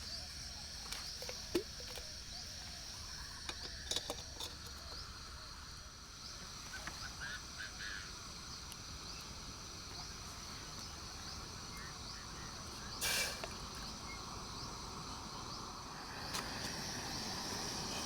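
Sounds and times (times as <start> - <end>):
insect chirps: 0.0 - 18.0
insects droning: 0.0 - 18.0.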